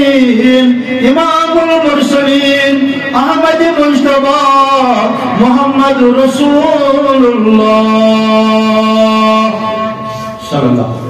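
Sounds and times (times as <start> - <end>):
man chanting a long note: 0.0 - 11.0.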